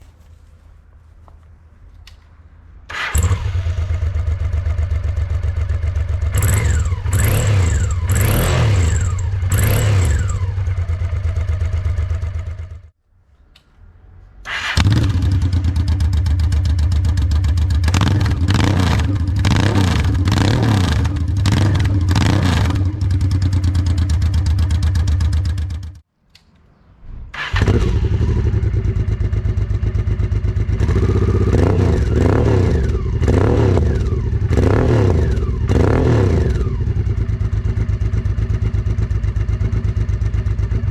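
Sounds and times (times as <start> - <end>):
motorcycle engine idling and revving: 2.9 - 13.0, 14.5 - 26.0, 27.4 - 40.9.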